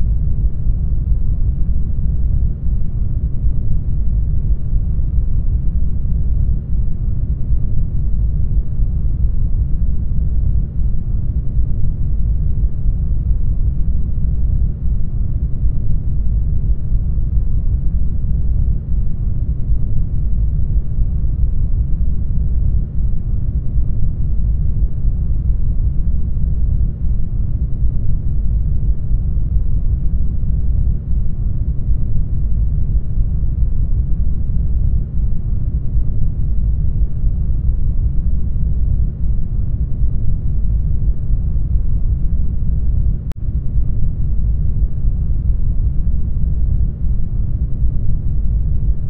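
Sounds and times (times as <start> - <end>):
muffled low underwater rumble: 0.0 - 49.0.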